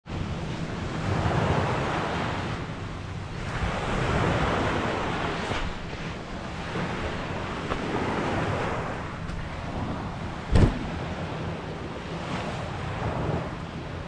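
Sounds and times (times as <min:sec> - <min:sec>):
surf rushing: 0:00.1 - 0:14.0
wind buffeting microphone: 0:00.1 - 0:14.0.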